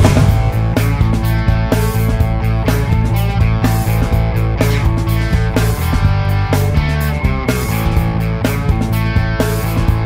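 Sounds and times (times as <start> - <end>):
rock music with steady beat: 0.0 - 10.0.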